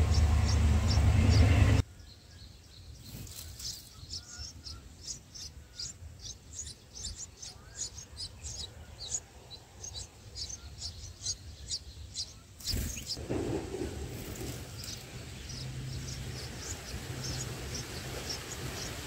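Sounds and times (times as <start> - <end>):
nestlings begging chirps: 0.0 - 19.0.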